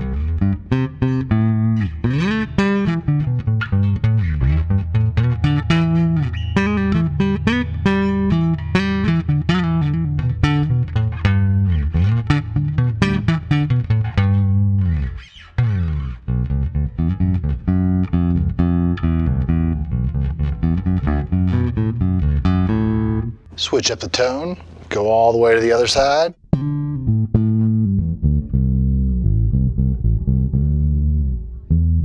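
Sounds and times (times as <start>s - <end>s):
bass guitar plucked fingerstyle: 0.0s - 25.0s, 26.0s - 32.0s.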